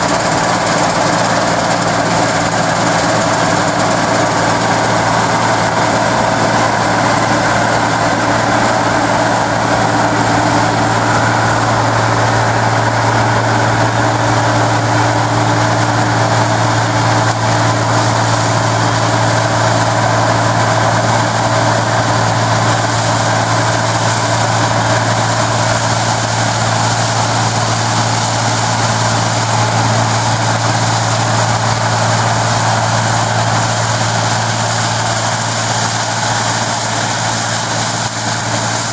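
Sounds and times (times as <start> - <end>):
combine harvester engine drone: 0.0 - 38.9
machinery noise: 0.0 - 38.9.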